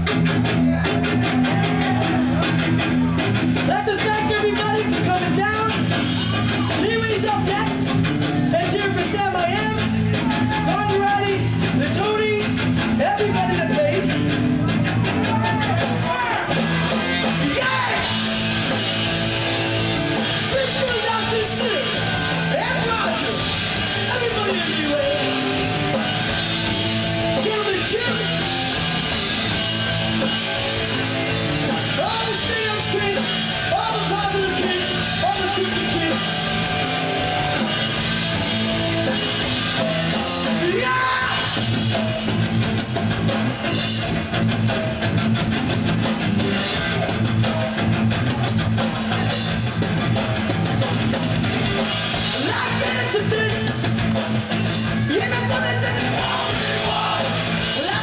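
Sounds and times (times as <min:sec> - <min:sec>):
bass guitar: 0:00.0 - 0:58.0
distorted electric guitar: 0:00.0 - 0:58.0
drum kit: 0:00.0 - 0:58.0.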